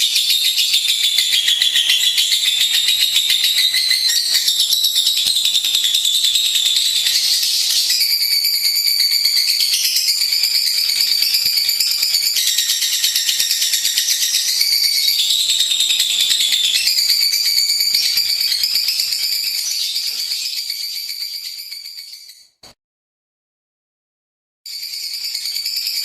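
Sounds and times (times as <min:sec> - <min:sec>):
lovebird chattering trill: 0:00.0 - 0:22.4.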